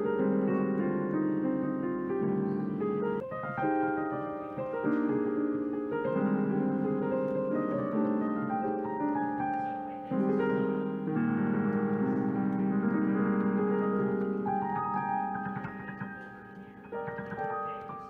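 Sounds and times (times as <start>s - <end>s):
solo jazz piano: 0.0s - 18.0s.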